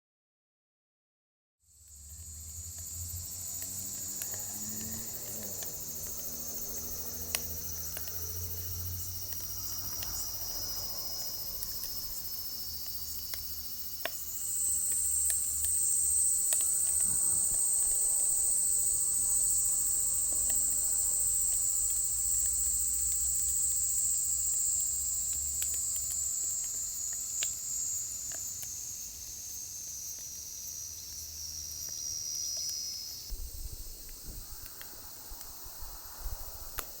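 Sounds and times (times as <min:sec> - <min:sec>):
insects chorus: 0:01.7 - 0:37.0
wood fire crackling: 0:01.8 - 0:37.0.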